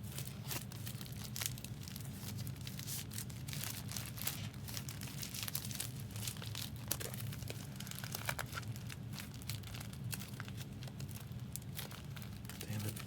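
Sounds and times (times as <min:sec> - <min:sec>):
foil wrappers crinkling: 0:00.0 - 0:13.0
steady low hum: 0:00.0 - 0:13.0.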